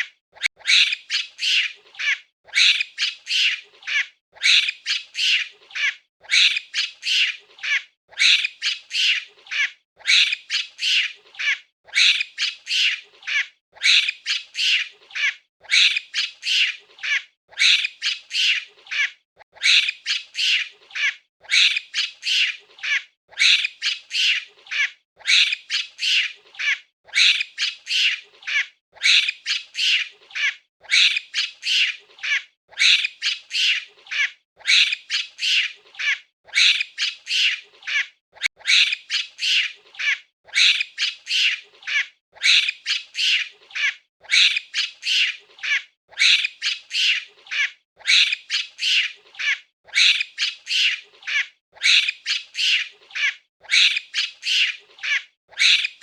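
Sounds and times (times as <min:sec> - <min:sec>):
high-pitched monkey calls: 0:00.0 - 0:56.0.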